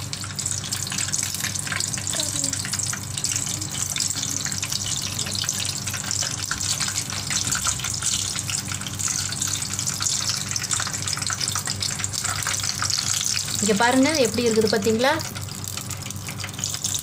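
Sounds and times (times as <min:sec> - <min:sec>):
low steady hum: 0:00.0 - 0:17.0
shrimp sizzling in hot oil: 0:00.0 - 0:17.0.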